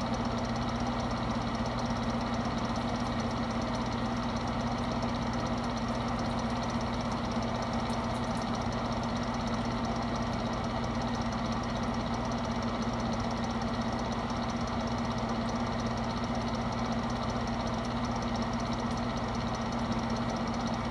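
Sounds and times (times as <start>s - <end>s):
space heater fan humming: 0.0s - 20.9s.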